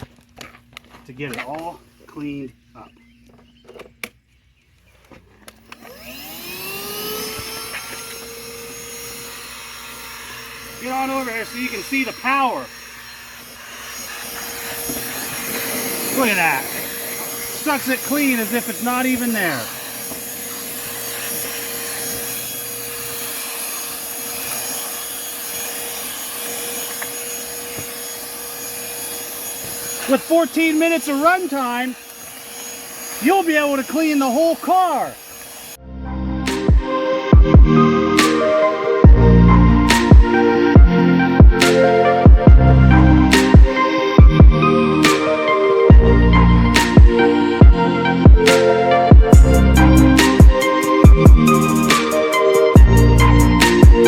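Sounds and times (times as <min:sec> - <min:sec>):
handheld vacuum motor whining: 0:04.8 - 0:35.8, 0:36.4 - 0:54.0.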